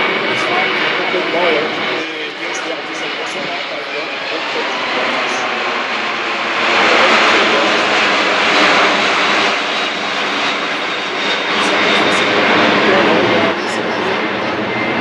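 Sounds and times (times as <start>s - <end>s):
jet plane passing overhead: 0.0s - 15.0s.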